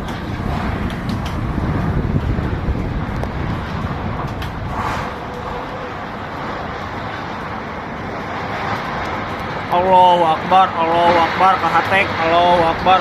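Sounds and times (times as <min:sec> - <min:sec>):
strong wind rumbling: 0:00.0 - 0:13.0.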